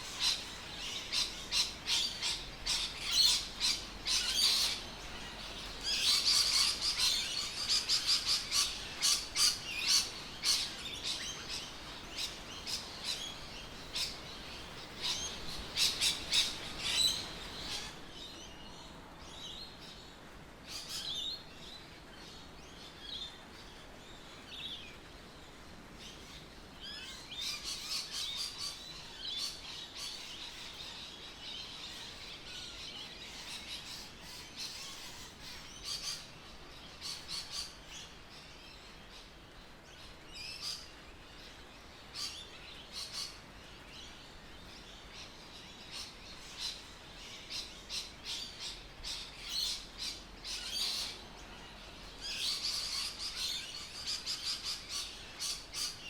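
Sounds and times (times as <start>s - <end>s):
birds calling: 0.0s - 19.0s, 26.2s - 56.0s
faint steady background noise: 0.0s - 56.0s.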